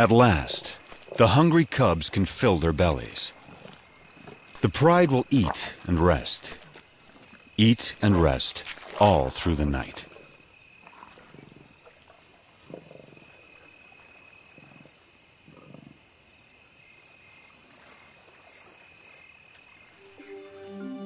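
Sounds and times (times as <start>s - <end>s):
night insects trilling: 0.0s - 20.6s.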